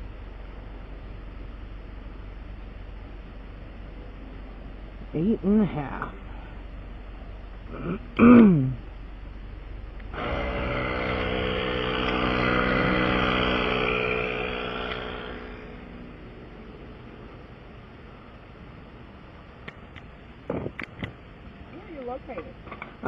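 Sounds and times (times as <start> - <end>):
vehicle engine running: 0.0 - 20.3.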